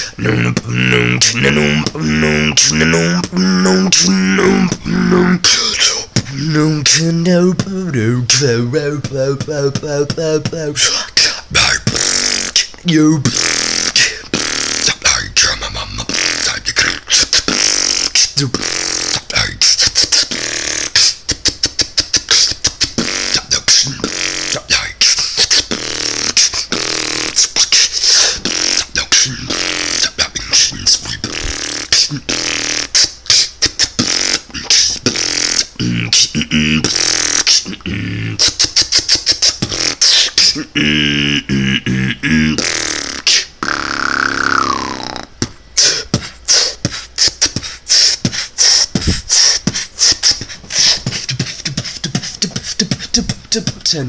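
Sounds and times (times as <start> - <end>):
beatboxing: 0.0 - 54.0.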